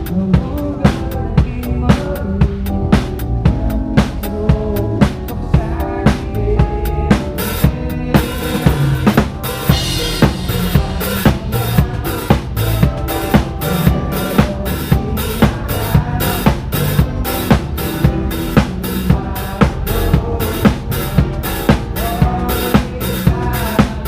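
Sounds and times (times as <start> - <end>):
bass and keyboard notes: 0.0 - 24.0
drum kit playing a steady groove: 0.0 - 24.0.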